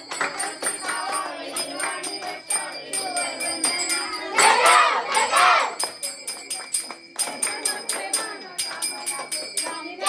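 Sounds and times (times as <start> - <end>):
family singing devotional song: 0.0 - 5.9, 7.1 - 10.0
hand-clapping: 0.0 - 10.0
jingling percussion: 0.0 - 10.0.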